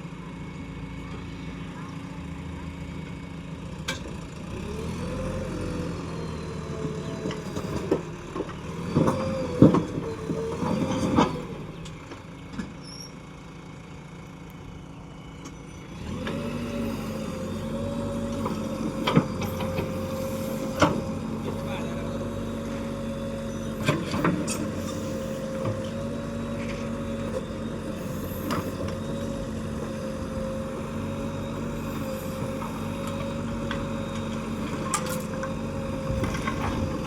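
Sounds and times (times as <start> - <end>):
backhoe diesel engine revving: 0.2 - 37.0.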